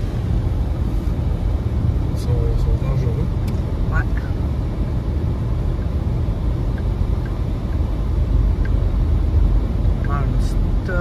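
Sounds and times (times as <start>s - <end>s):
car driving on snowy road: 0.0s - 11.0s.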